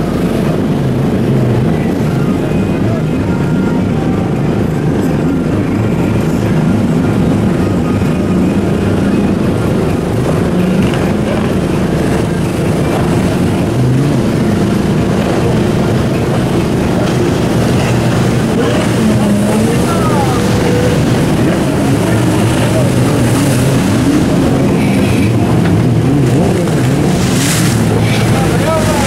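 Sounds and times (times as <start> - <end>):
boat engines running: 0.0 - 29.0
water rushing and spray: 0.0 - 29.0.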